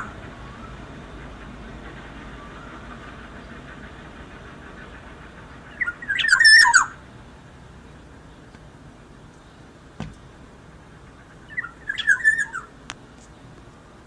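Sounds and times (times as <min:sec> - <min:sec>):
oriole calling: 0:00.0 - 0:12.8.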